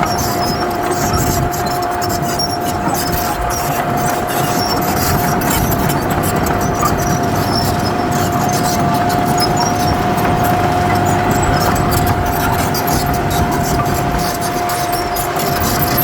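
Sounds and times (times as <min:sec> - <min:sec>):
diesel machine engine running: 0:00.0 - 0:16.0.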